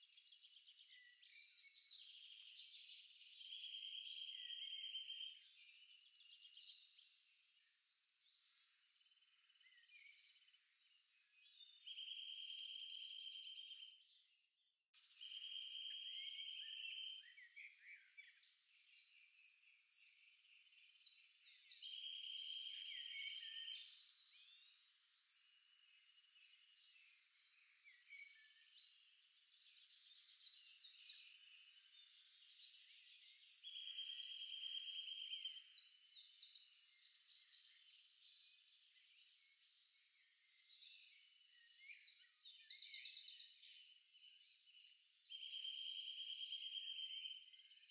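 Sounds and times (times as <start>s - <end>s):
songbirds singing: 0.0s - 47.9s.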